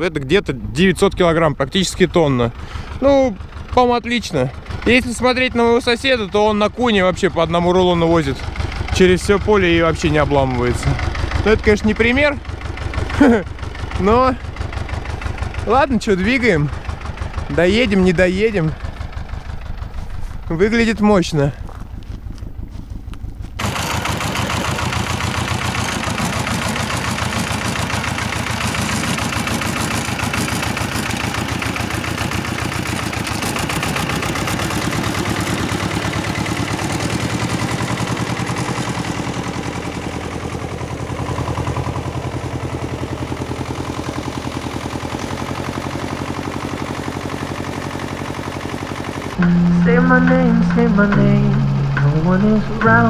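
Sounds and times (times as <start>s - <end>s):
tractor engine chugging: 0.0s - 53.0s.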